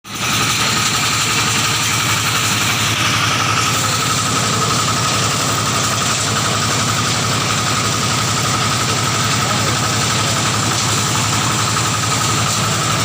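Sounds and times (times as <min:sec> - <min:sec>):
chaff cutter engine running: 0:00.0 - 0:13.0.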